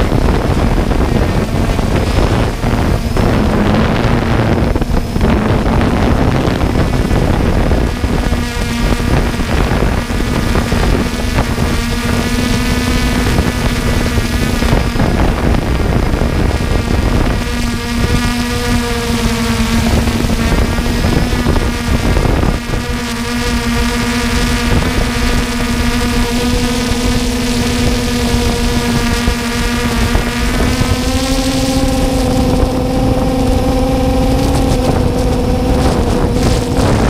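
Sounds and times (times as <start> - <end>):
drone propellers buzzing: 0.0 - 37.0
wind noise on microphone: 0.0 - 37.0.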